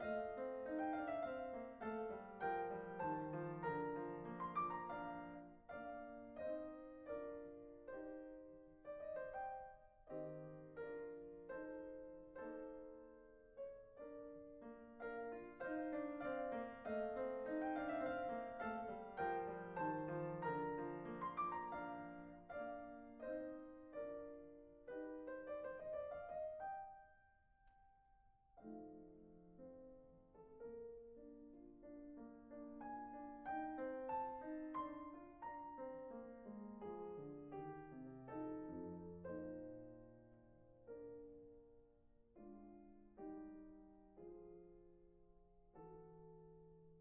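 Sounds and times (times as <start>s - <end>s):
slow piano chords: 0.0s - 47.0s.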